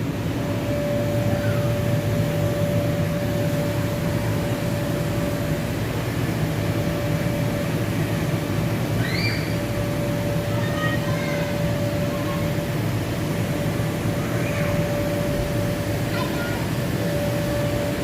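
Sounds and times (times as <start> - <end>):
electric blower fans droning: 0.0 - 18.0.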